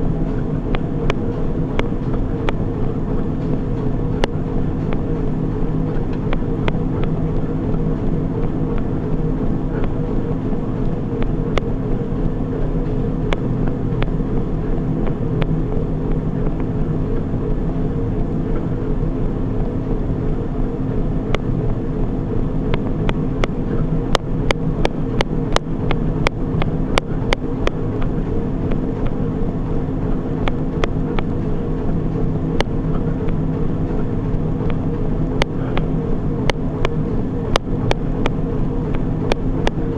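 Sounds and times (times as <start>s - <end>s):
treadmill motor and belt hum: 0.0s - 39.9s.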